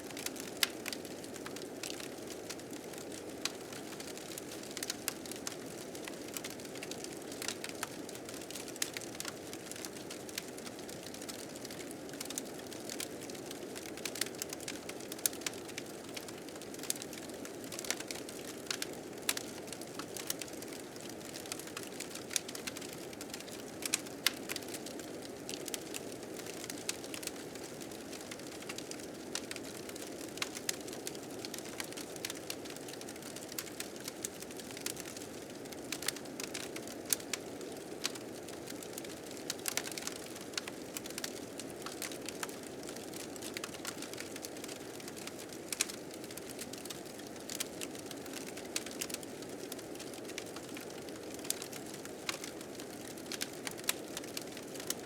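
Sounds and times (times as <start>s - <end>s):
fire crackling and popping: 0.1s - 55.0s.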